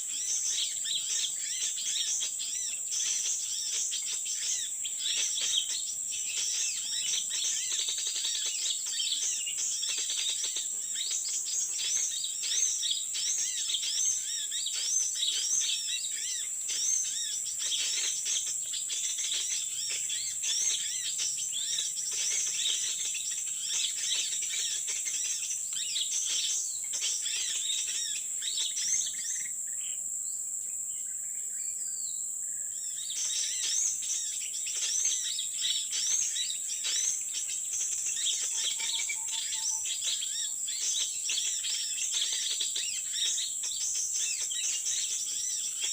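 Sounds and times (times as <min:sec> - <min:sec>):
high-pitched insect drone: 0:00.0 - 0:45.9
small birds chirping: 0:00.0 - 0:45.9.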